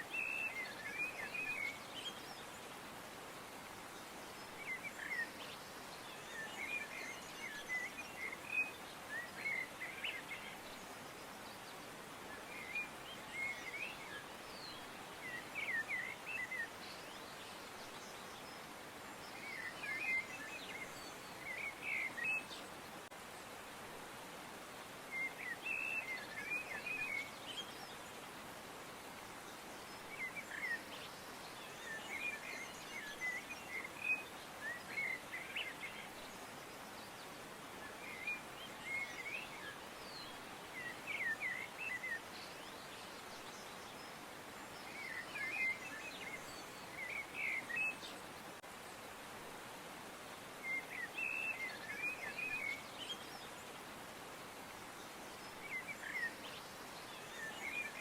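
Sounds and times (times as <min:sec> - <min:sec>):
songbirds chirping: 0:00.0 - 0:58.0
steady background hiss: 0:00.0 - 0:58.0.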